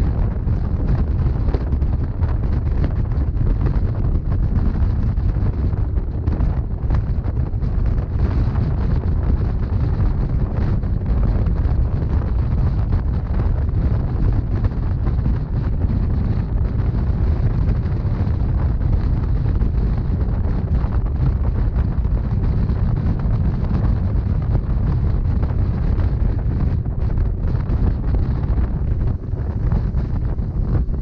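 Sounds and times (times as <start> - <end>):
wind noise on microphone: 0.0 - 31.0.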